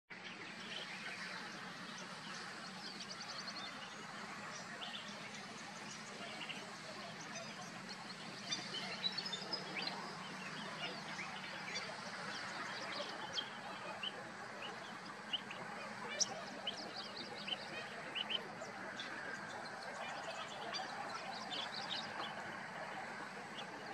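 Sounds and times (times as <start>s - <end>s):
birds chirping and calling: 0.5s - 23.9s.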